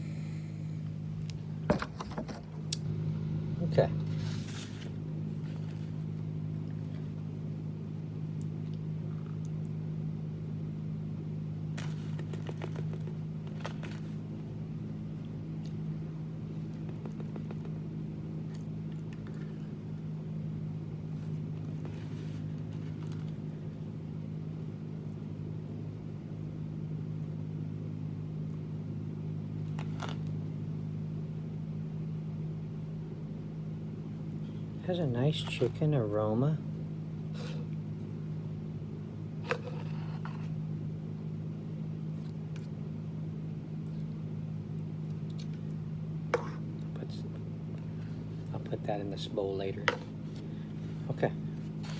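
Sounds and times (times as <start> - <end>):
low machine hum: 0.0 - 51.9.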